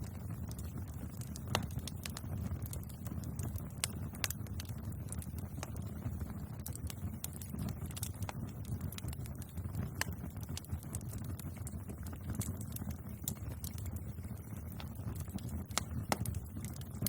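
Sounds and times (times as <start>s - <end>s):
wood bonfire crackling: 0.0s - 17.0s.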